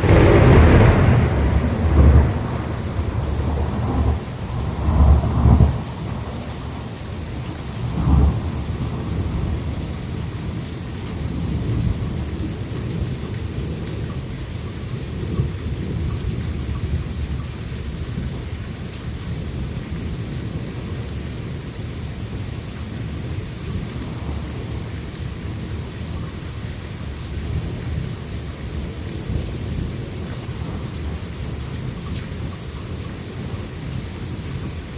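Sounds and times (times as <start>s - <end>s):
rolling thunder rumble: 0.0s - 18.7s, 19.3s - 34.9s
steady rain: 0.0s - 34.9s.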